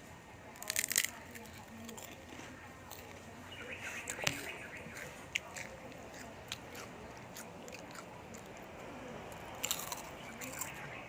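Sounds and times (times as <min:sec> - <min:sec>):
crunchy snack chewing: 0:00.5 - 0:11.0.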